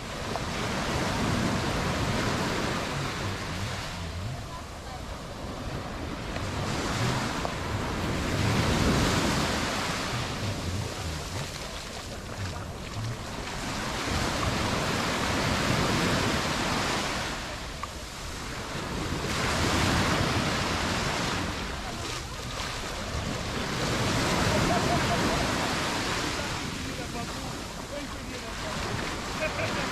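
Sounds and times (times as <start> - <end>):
surf breaking on beach: 0.0 - 29.9.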